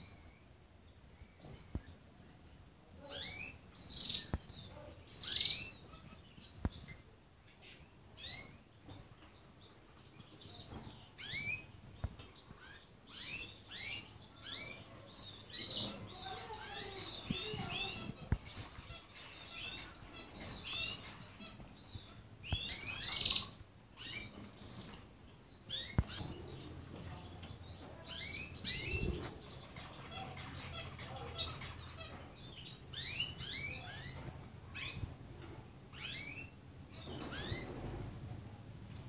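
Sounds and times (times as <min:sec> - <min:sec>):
canaries chirping: 0:00.0 - 0:38.6.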